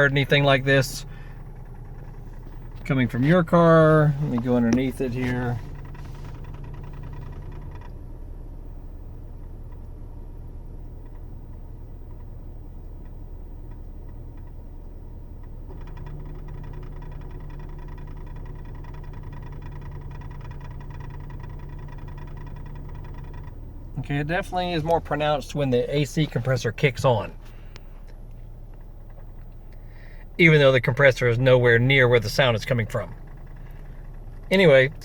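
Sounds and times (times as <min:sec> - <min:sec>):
fast faint ticking: 0:00.0 - 0:08.0, 0:10.8 - 0:30.4, 0:31.0 - 0:35.0
car engine idling: 0:00.0 - 0:35.0
low hum: 0:00.0 - 0:35.0.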